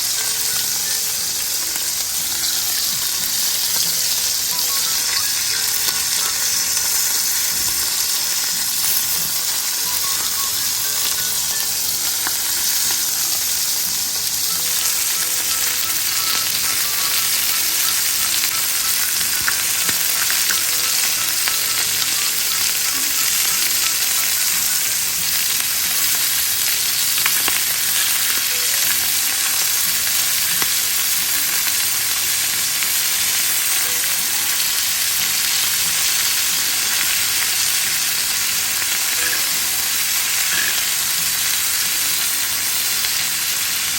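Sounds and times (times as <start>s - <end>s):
food sizzling in hot oil: 0.0s - 43.9s.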